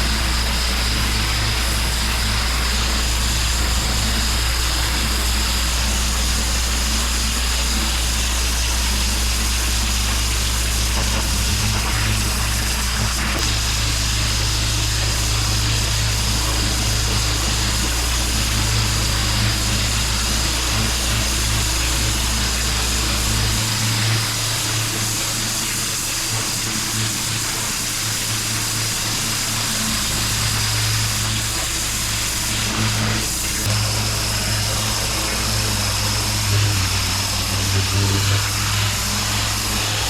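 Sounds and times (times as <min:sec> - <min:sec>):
high-pressure water spray hiss: 0:00.0 - 0:40.0
pressure washer engine hum: 0:00.0 - 0:40.0.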